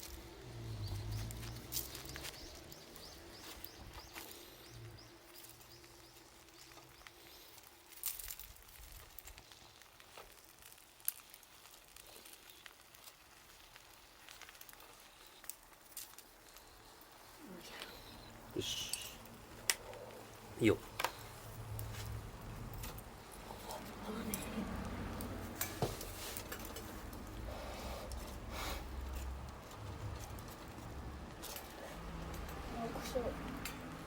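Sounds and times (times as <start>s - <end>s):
faint hiss: 0.0s - 29.3s
bonfire crackling and popping: 0.0s - 34.0s.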